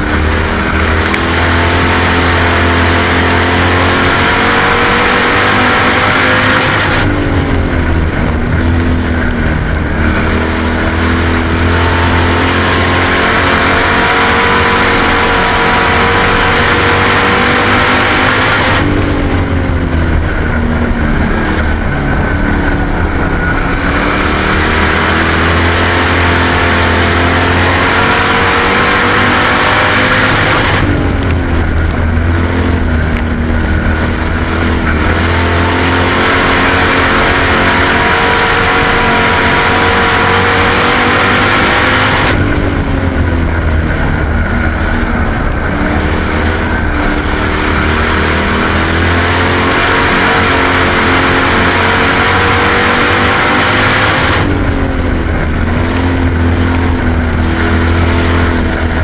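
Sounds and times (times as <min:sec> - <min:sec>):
race car engine at full speed: 0:00.0 - 0:59.0.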